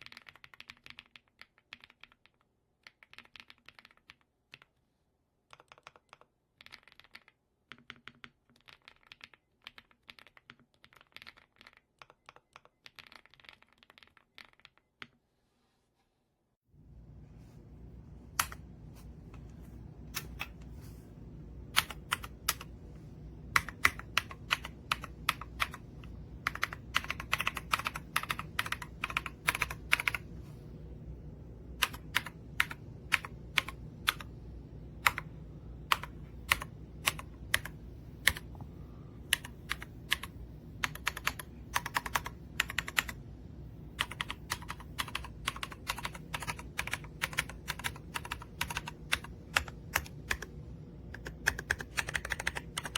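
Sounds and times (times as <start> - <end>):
mechanical keyboard typing: 0.0 - 4.8, 5.5 - 14.9, 18.3 - 18.7, 20.0 - 20.7, 21.6 - 22.8, 23.4 - 30.4, 31.7 - 38.6, 39.2 - 43.3, 44.0 - 52.9.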